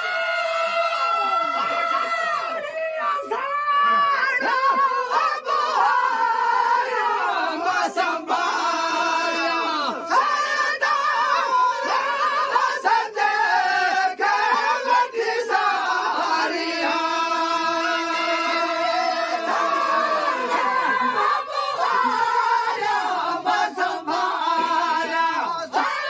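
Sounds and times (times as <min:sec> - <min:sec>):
men singing without instruments: 0:03.9 - 0:26.0.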